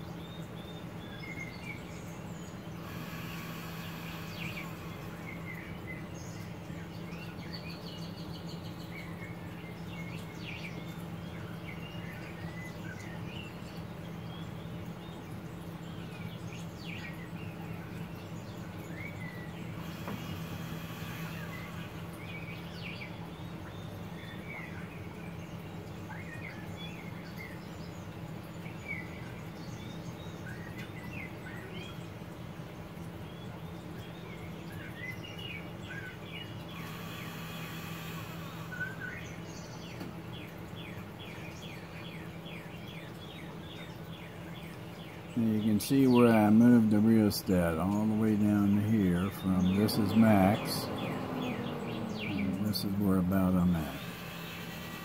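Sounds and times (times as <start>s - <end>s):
combustion fan humming: 0.0s - 55.0s
songbirds chirping: 0.0s - 55.0s.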